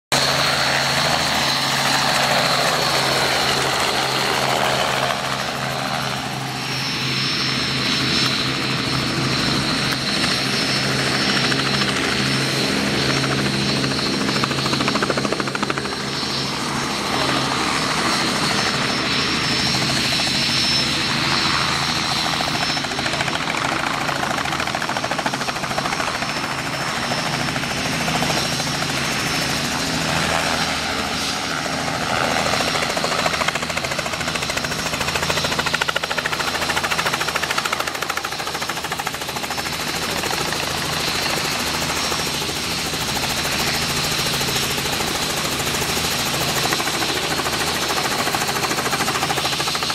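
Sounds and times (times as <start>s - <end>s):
helicopter hovering: 0.1s - 49.9s.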